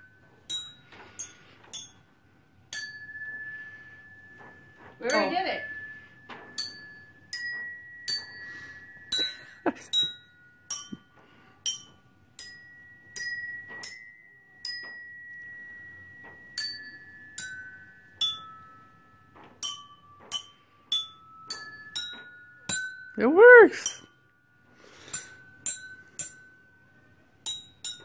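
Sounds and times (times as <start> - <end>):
metal chime bars ringing: 0.0 - 2.1, 2.7 - 28.0.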